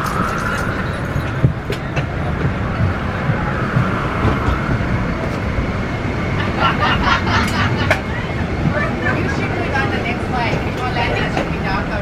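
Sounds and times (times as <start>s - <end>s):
aircraft cabin low rumble: 0.0s - 12.0s
voices: 0.0s - 12.0s.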